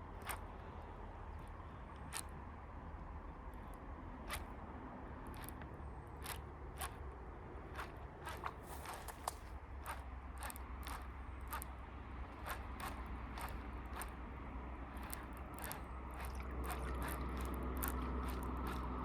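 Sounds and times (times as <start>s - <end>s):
fishing reel clicking and scraping: 0.1s - 0.6s, 1.3s - 2.3s, 3.5s - 19.0s.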